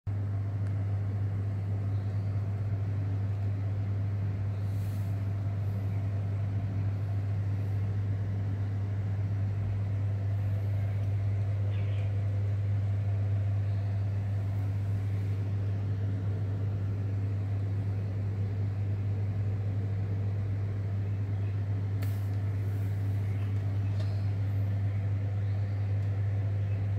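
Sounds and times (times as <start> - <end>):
amplifier low hum: 0.1 - 26.9.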